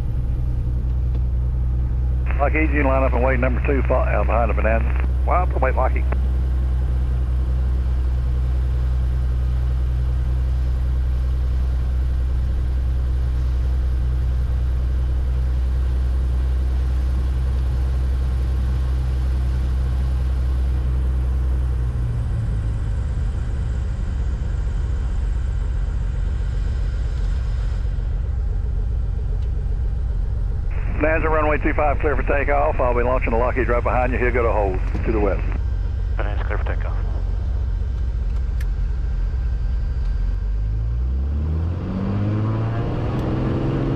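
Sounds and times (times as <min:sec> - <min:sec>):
aircraft piston engine idling: 0:00.0 - 0:40.8.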